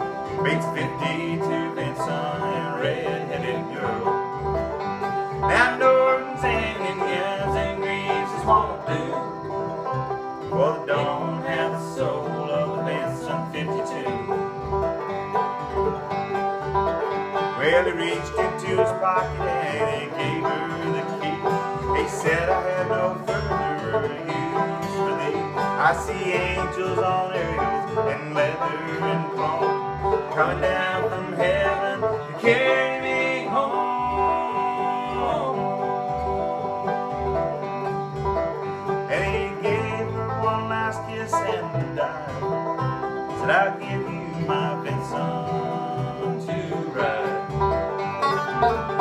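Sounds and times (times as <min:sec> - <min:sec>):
bluegrass banjo guitar and bass: 0:00.0 - 0:49.0.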